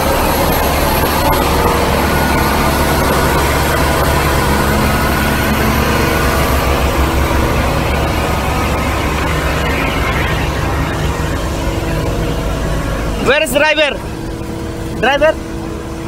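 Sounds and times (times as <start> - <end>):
diesel machinery engine drone: 0.0 - 16.0.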